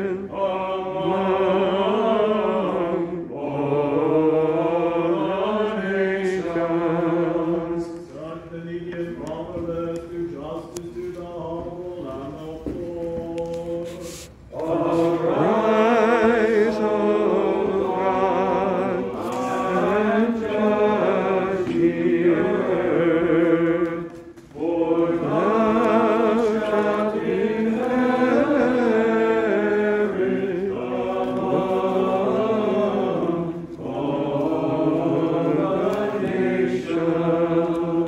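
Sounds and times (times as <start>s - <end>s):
choir chanting: 0.0s - 9.9s, 11.3s - 38.0s.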